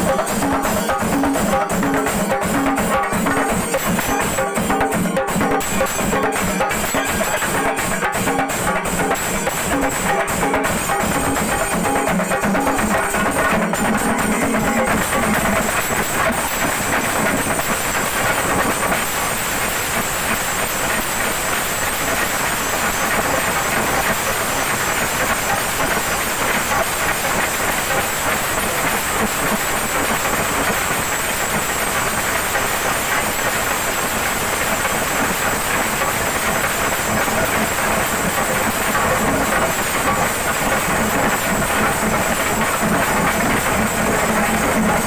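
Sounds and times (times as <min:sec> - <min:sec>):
drums rolling beat: 0:00.0 - 0:45.0.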